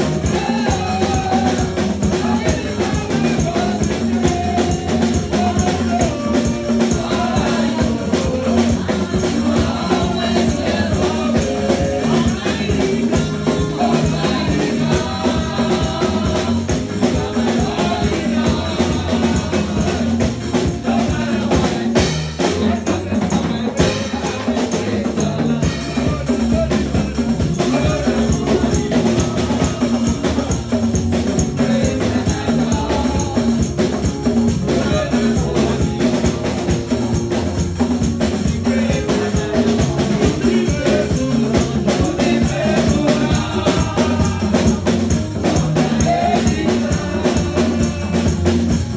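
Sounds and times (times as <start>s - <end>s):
drums and hand percussion: 0.0s - 48.9s
people singing: 0.0s - 48.9s.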